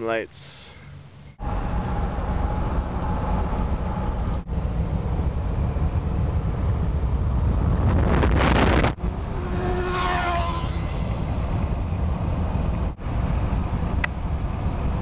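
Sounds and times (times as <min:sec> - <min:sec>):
car road and engine rumble: 0:00.6 - 0:15.0
wind noise: 0:01.4 - 0:15.0.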